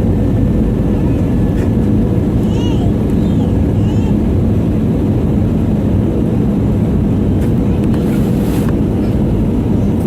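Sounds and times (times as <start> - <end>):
jet engines droning: 0.0 - 10.0
rushing air: 0.0 - 10.0.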